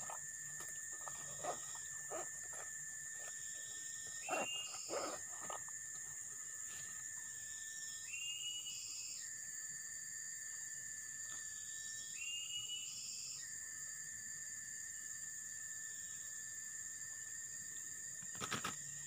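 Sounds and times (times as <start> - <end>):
forest insects droning: 0.0 - 19.0.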